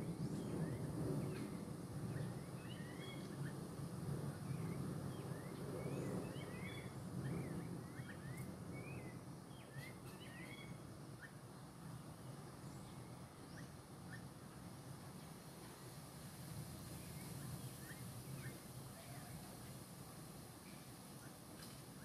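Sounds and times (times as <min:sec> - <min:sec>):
low steady background rumble: 0:00.0 - 0:22.0.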